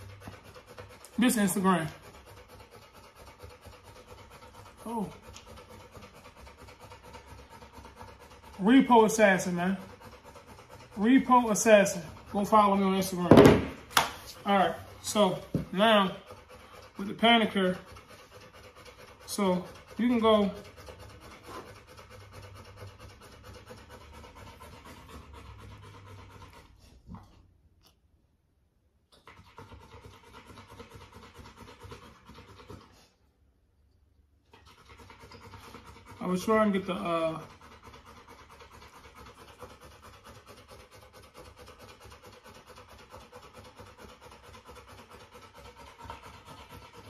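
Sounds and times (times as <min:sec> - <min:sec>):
puppy panting: 0:00.0 - 0:27.9, 0:29.1 - 0:33.4, 0:34.3 - 0:47.0.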